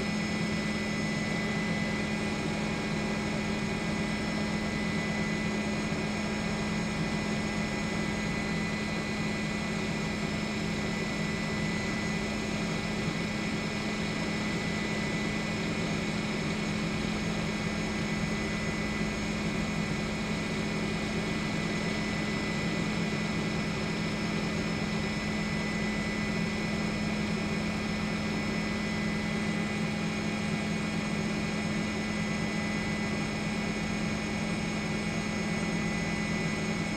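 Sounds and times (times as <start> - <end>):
aircraft engine drone in cabin: 0.0 - 36.9.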